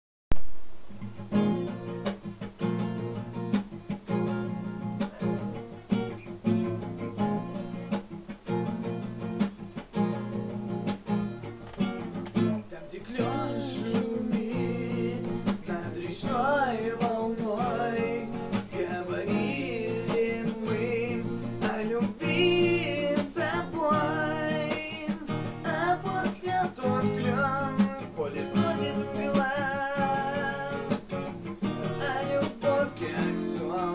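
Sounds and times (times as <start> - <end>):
strummed guitar rhythm: 0.4 - 33.9.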